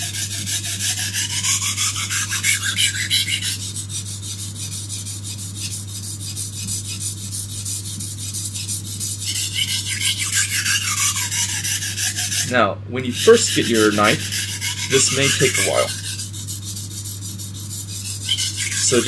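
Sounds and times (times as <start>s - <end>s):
knife scraping on oilstone: 0.0s - 19.0s.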